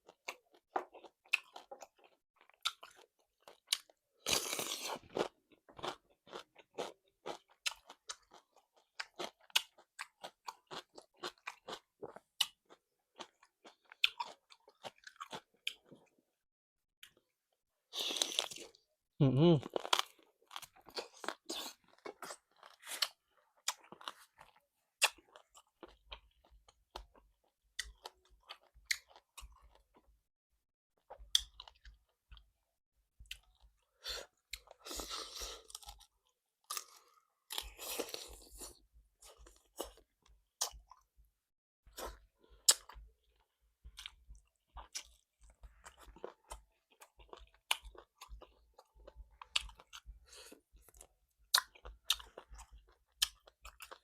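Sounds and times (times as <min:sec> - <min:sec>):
person chewing and crunching: 0:00.0 - 0:16.2, 0:17.9 - 0:30.1, 0:31.0 - 0:32.6, 0:33.2 - 0:41.1, 0:41.9 - 0:54.0.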